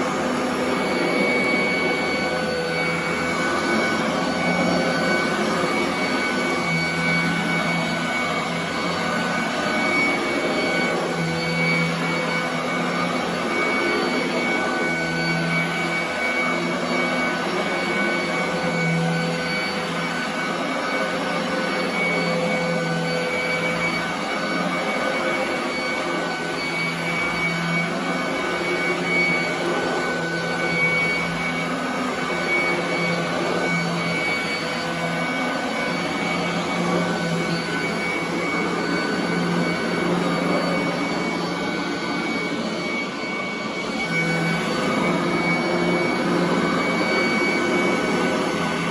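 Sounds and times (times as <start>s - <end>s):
vacuum cleaner running over carpet: 0.0s - 48.9s.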